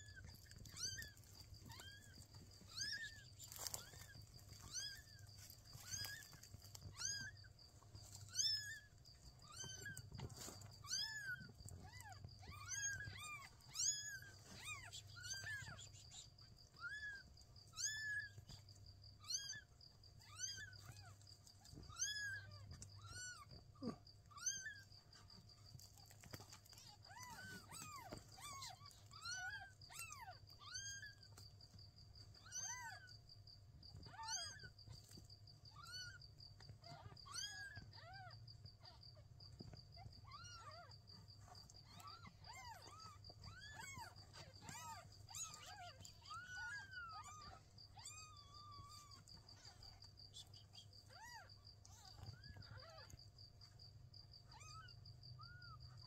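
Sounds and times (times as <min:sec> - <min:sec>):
kittens mewing: 0:00.0 - 0:56.0.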